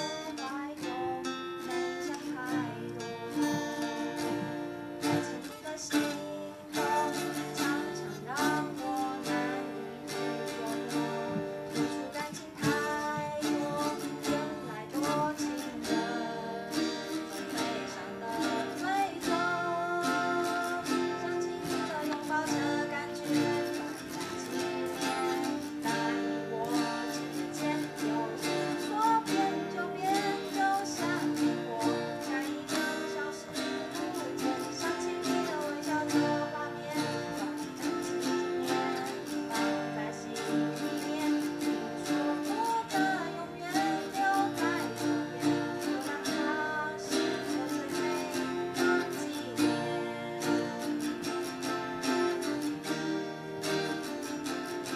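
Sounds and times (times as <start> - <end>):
acoustic guitars strumming: 0.0 - 54.9
girl singing into a microphone: 0.0 - 54.9.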